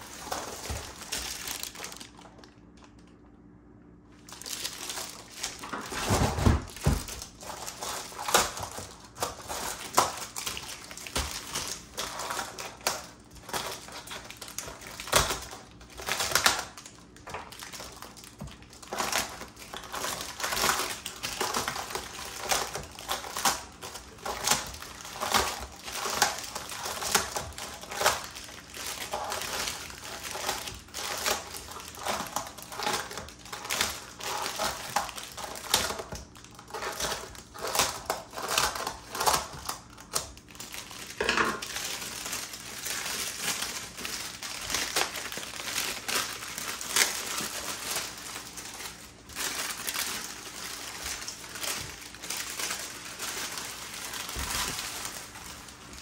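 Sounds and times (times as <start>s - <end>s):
plastic crinkling: 0.0s - 3.4s, 4.0s - 56.0s
scissors snipping plastic: 4.4s - 55.4s.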